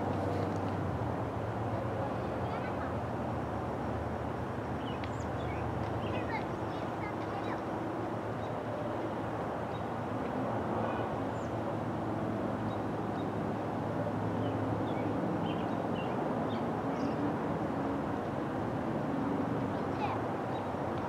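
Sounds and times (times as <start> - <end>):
low rumble of distant traffic: 0.0 - 21.0.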